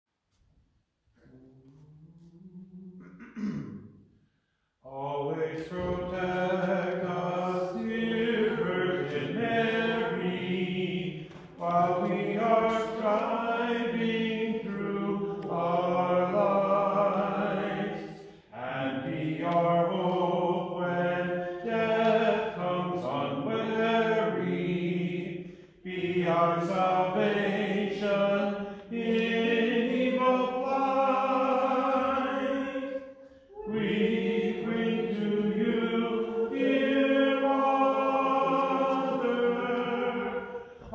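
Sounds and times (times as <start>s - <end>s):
voices singing liturgical chant: 4.8s - 40.9s.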